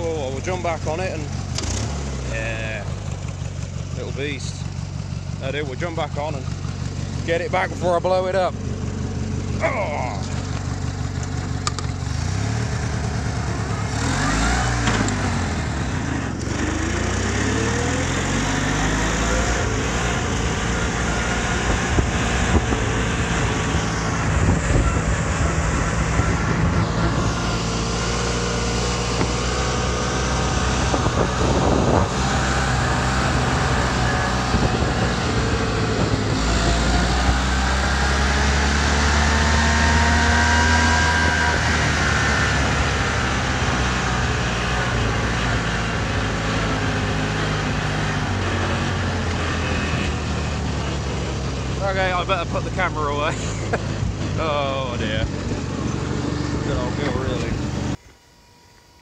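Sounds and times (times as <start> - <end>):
mower engine accelerating: 0.0 - 59.0.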